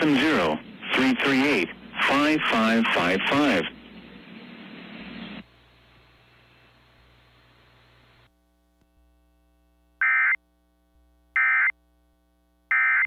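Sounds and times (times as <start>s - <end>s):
low receiver hiss: 0.0s - 12.7s.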